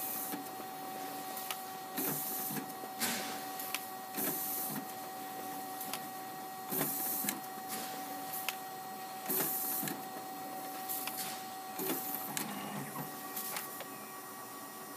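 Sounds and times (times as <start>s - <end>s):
paper swishing through scanner: 0.0s - 13.8s
document scanner whine: 0.0s - 14.9s.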